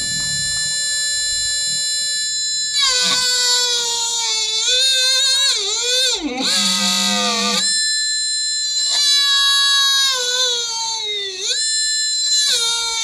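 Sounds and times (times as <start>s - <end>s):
electric drill motor whining: 0.0s - 13.0s.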